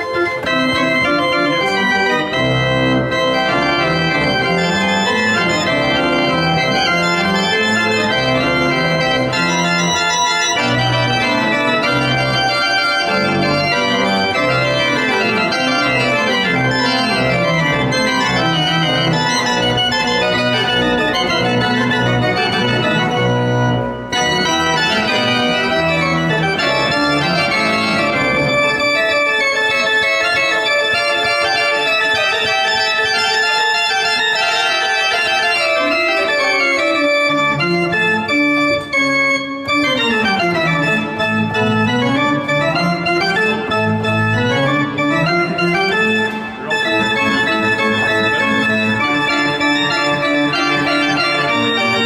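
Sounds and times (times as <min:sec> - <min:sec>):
pipe organ playing: 0:00.0 - 0:52.0.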